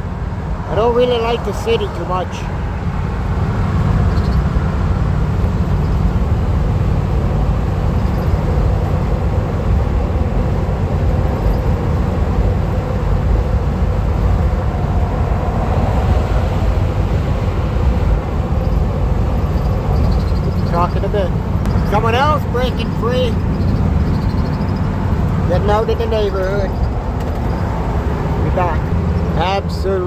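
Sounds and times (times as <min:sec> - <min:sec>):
van road and engine rumble: 0:00.0 - 0:30.0.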